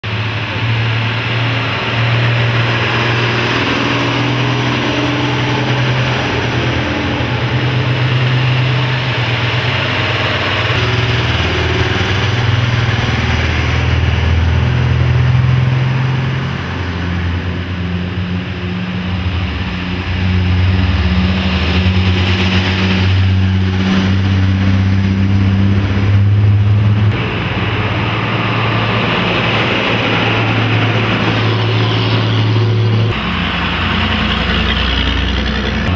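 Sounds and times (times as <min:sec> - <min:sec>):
diesel truck engines droning: 0:00.0 - 0:35.9.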